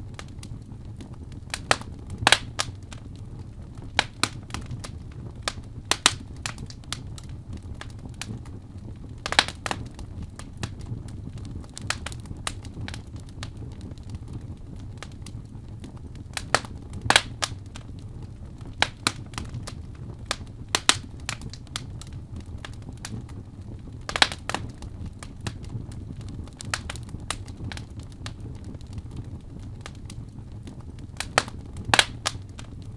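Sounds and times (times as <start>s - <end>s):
burning logs crackling and popping: 0.0s - 32.9s
low rumble of flame: 0.0s - 32.9s.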